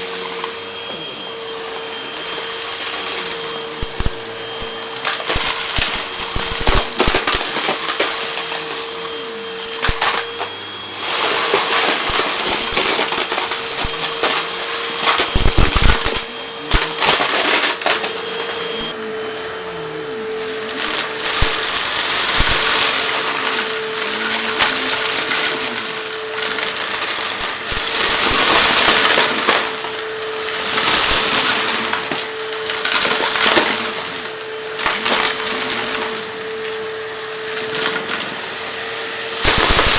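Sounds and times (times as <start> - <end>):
vacuum cleaner motor hum: 0.0 - 39.9
debris crackling through vacuum: 1.8 - 19.0, 20.7 - 38.3, 39.4 - 39.9.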